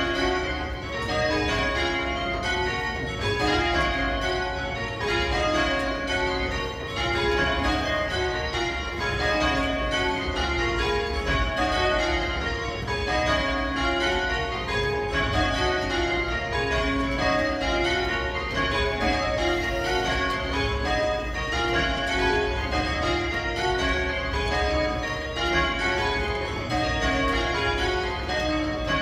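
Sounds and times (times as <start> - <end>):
church bells change ringing: 0.0 - 29.0.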